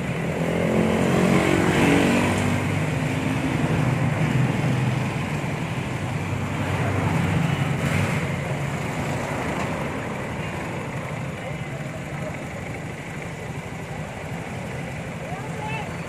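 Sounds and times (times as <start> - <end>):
steady traffic hum: 0.0 - 16.0.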